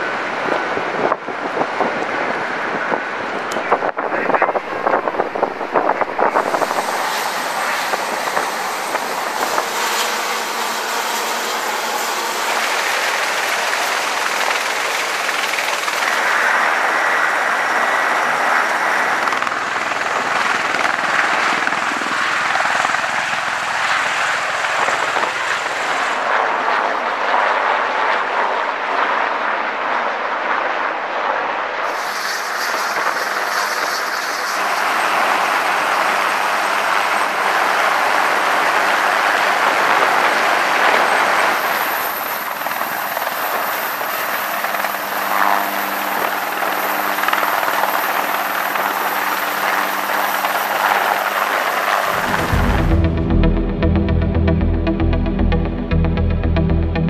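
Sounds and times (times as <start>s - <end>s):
helicopter rotor noise: 0.0s - 29.2s, 31.9s - 52.7s
tiltrotor aircraft engine and rotor: 0.0s - 52.8s.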